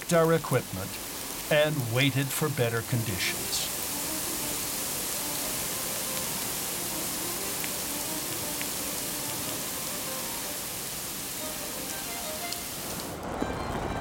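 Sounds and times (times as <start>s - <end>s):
underwater rain hiss: 0.0s - 13.2s.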